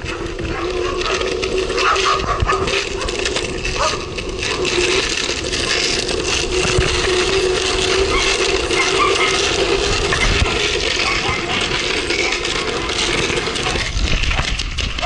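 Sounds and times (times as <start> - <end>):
longboard wheels rolling on pavement: 0.0 - 15.0
wheels clicking over cracks: 0.0 - 15.0.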